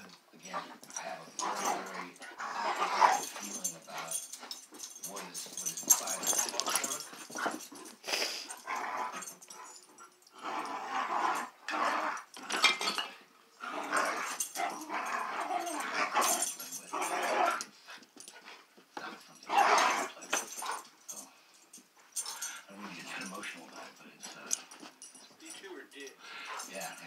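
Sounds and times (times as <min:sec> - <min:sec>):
dogs growling: 0:00.4 - 0:18.4, 0:19.0 - 0:21.3, 0:22.2 - 0:25.3, 0:26.2 - 0:27.0.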